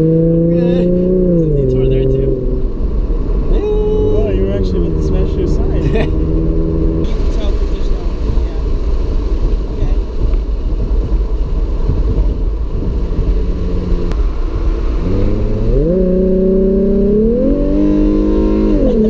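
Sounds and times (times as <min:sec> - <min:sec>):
car engine accelerating: 0:00.0 - 0:19.0
road rumble: 0:00.0 - 0:19.0.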